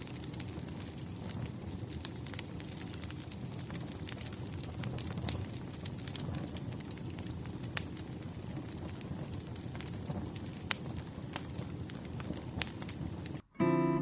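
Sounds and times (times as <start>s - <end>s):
fire crackling with pops: 0.0s - 13.4s.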